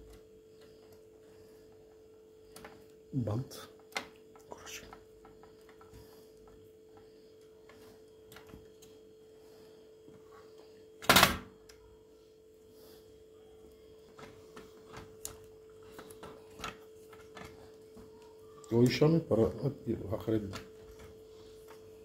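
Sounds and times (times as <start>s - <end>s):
steady faint hum: 0.0s - 22.0s.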